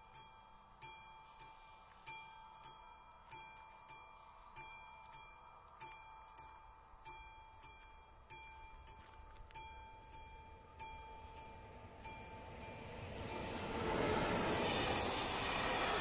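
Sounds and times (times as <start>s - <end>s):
level-crossing warning bell: 0.0s - 16.0s
train rumble: 0.0s - 16.0s.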